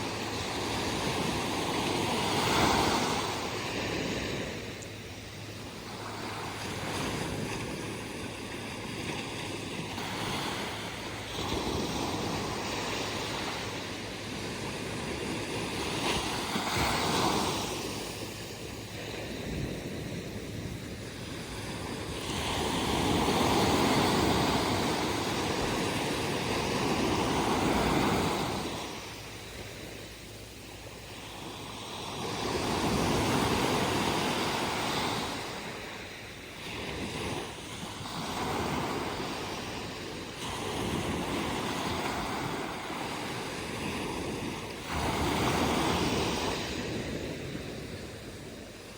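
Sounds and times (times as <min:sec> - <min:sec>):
ocean waves breaking on beach: 0:00.0 - 0:48.9.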